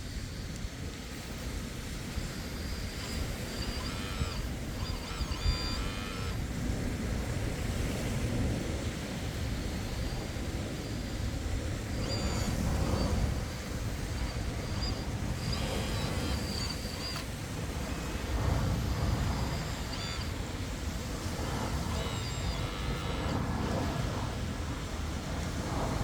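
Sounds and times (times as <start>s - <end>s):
short high-pitched squeals: 0.0s - 8.1s, 9.1s - 25.5s
excavator engine running: 0.0s - 26.0s.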